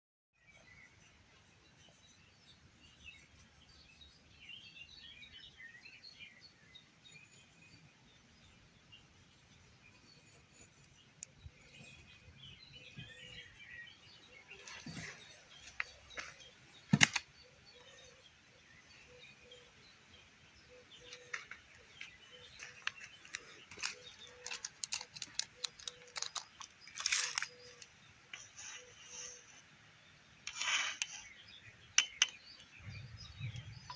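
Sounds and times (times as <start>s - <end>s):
birds chirping: 0.4s - 33.9s.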